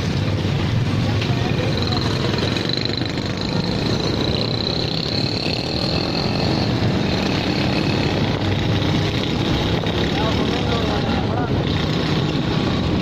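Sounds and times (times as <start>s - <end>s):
small motorcycle engines: 0.0s - 13.0s.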